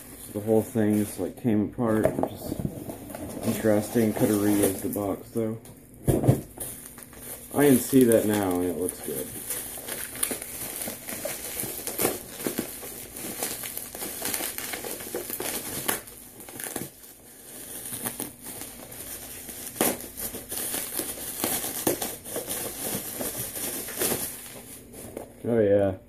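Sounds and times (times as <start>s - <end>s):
bubble wrap crinkling: 0.0s - 5.5s, 6.1s - 25.4s.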